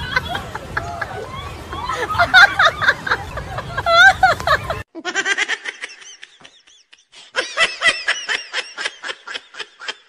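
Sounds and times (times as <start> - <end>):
person laughing: 0.0 - 10.0.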